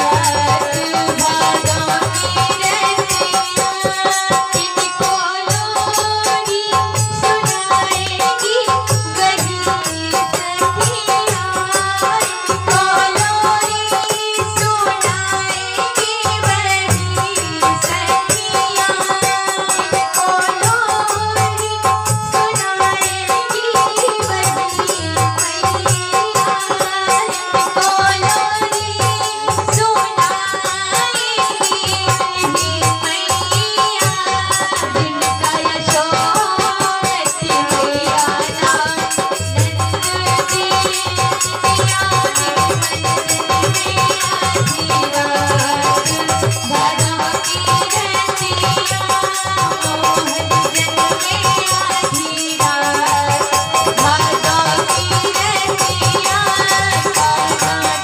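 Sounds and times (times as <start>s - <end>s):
dholak drum rhythm: 0.0s - 58.0s
harmonium chords: 0.0s - 58.0s
jingling hand percussion: 0.0s - 58.0s
woman singing: 0.0s - 58.0s.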